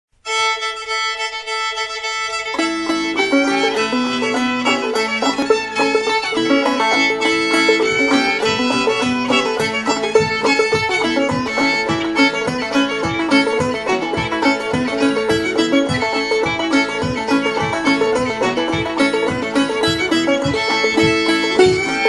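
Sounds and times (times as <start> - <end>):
fiddle playing: 0.2 - 22.0
clawhammer banjo: 0.6 - 22.0
guitar playing along: 2.4 - 22.0.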